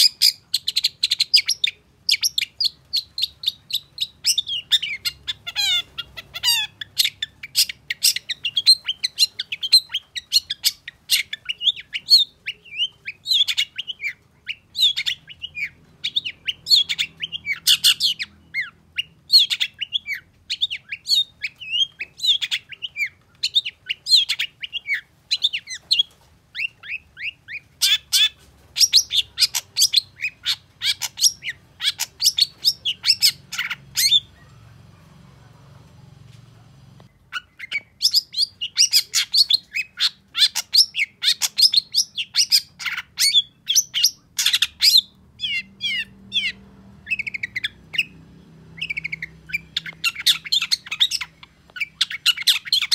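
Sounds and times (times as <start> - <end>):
bird chattering song: 0.0 - 35.5, 37.1 - 52.9.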